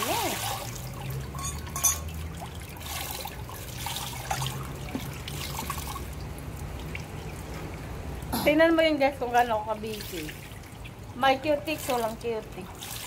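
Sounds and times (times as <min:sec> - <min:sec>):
low steady hum: 0:00.0 - 0:13.0
pool water lapping: 0:00.0 - 0:13.0.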